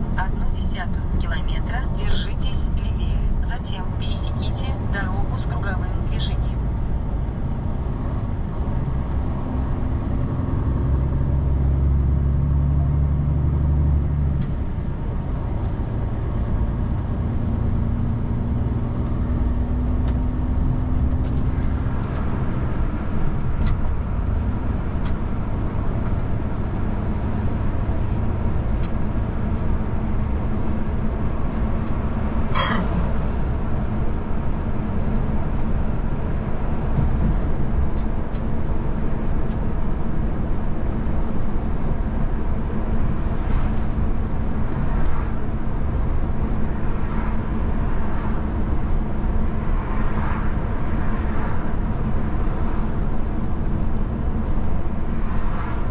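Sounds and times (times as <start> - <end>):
low engine drone: 0.0 - 55.9
road noise: 0.0 - 55.9.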